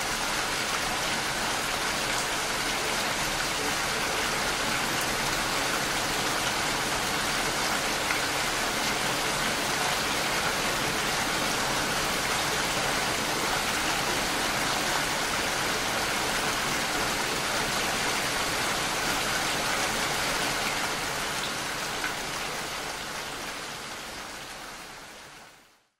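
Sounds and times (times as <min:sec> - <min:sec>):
steady dense rainfall: 0:00.0 - 0:25.9.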